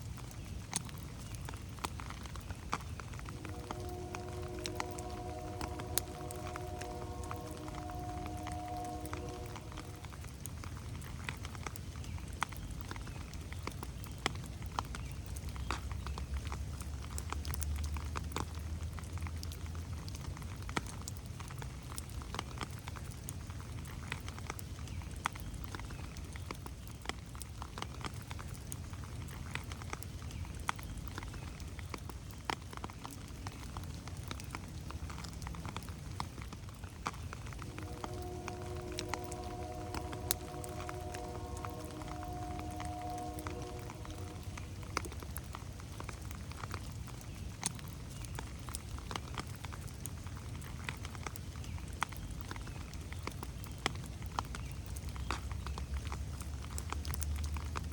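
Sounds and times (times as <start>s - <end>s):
low rain rumble: 0.0s - 57.9s
raindrops ticking on leaves: 0.0s - 57.9s.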